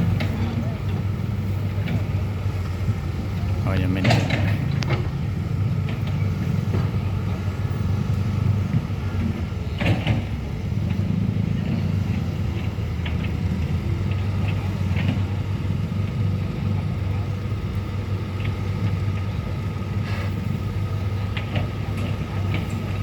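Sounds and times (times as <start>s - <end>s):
heavy engine rumbling: 0.0s - 23.0s.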